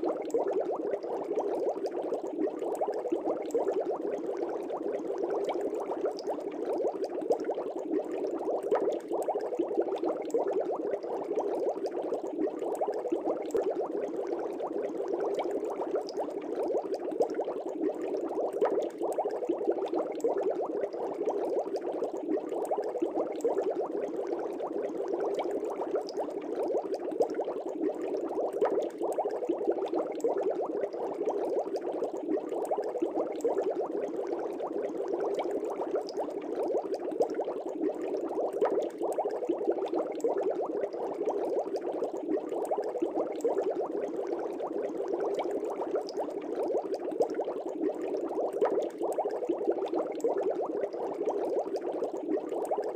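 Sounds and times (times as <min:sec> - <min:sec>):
fish tank air bubbles: 0:00.0 - 0:52.9.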